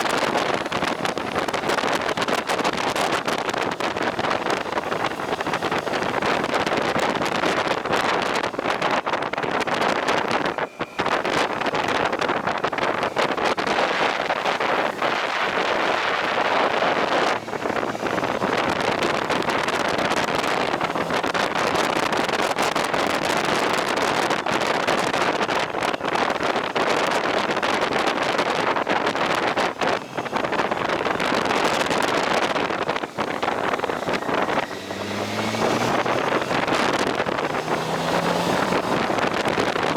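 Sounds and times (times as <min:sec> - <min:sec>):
road and engine noise: 0:00.0 - 0:39.9
wind buffeting microphone: 0:00.0 - 0:39.9.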